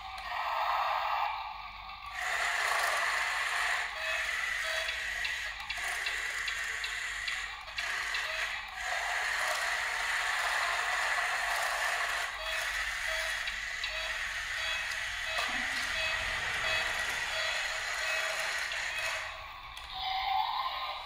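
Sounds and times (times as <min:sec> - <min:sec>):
small electric motors whirring: 0:00.0 - 0:21.0
tinny electronic toy music: 0:02.0 - 0:21.0.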